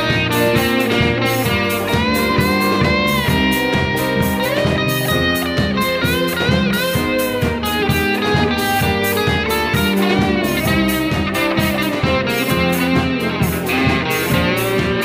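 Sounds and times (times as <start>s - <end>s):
electric guitar lead line: 0.0s - 15.0s
keyboards: 0.0s - 15.0s
steady drum beat: 0.0s - 15.0s.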